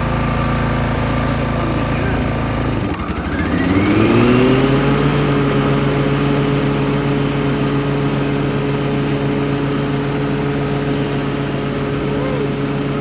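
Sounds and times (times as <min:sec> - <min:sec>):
engine clicks: 0:00.0 - 0:13.0
lawn mower engine running: 0:00.0 - 0:13.0.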